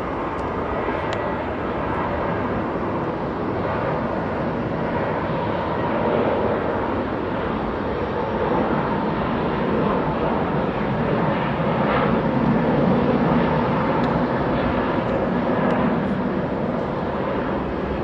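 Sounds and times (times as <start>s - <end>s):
jet engines at takeoff: 0.0s - 18.0s.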